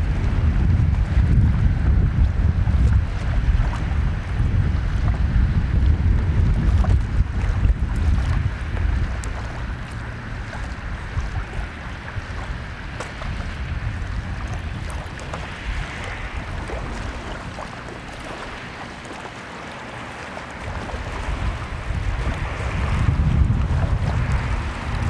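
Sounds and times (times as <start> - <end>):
paddles splashing water: 0.0 - 25.0
wind buffeting microphone: 0.0 - 25.0.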